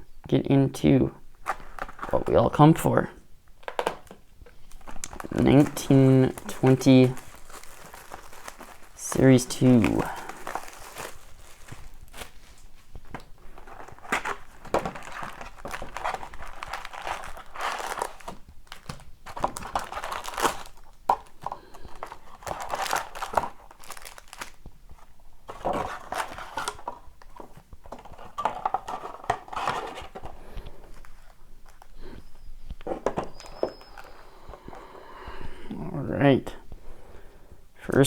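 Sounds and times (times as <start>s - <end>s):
plastic wrapping crinkling and tearing: 1.4s - 2.4s, 3.6s - 34.2s.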